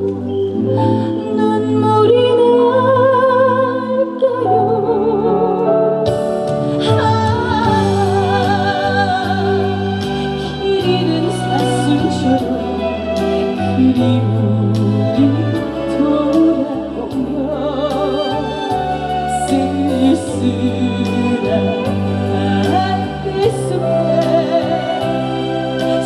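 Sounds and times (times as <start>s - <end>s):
vibrato melody over chords and bass: 0.0s - 26.0s.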